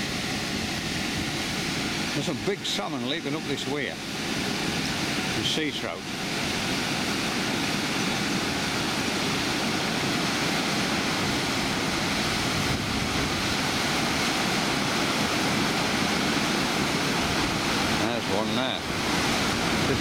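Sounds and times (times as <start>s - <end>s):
water rushing over weir: 0.0s - 20.0s.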